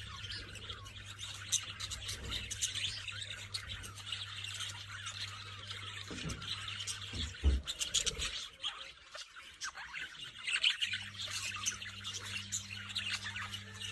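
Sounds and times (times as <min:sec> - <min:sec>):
parrots chirping and chattering: 0:00.0 - 0:13.9.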